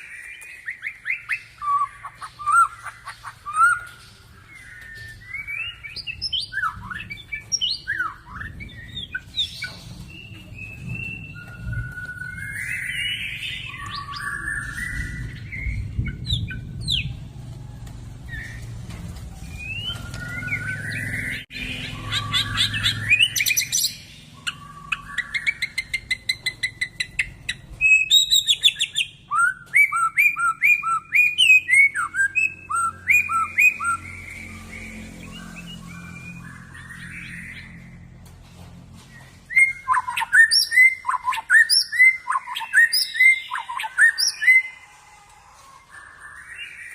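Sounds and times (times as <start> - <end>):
bird singing whistled phrases: 0.0 - 17.1, 19.5 - 37.6, 39.2 - 44.8.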